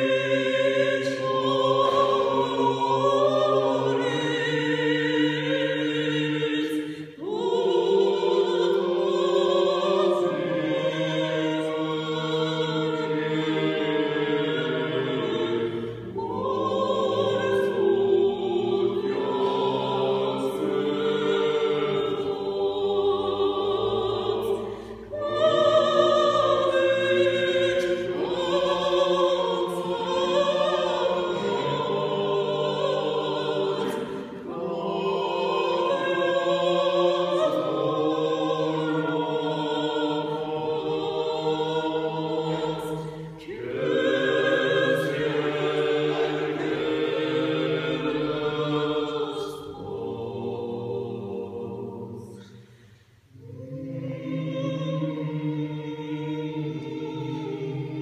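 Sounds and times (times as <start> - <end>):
vocal ensemble singing a hymn: 0.0 - 58.0.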